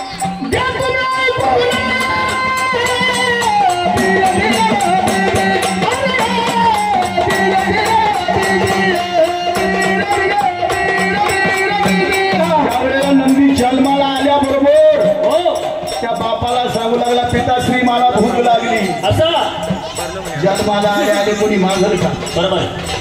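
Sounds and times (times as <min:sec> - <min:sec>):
fast percussion with jingles: 0:00.0 - 0:23.0
ornamented melodic line: 0:00.0 - 0:23.0.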